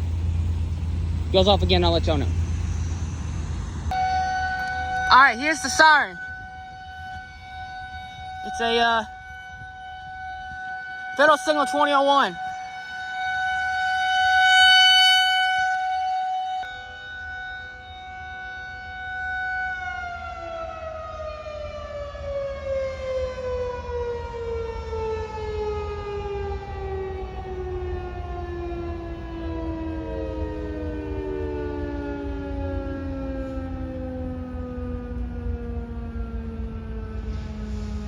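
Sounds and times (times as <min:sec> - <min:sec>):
tornado siren winding down: 0:00.0 - 0:38.0.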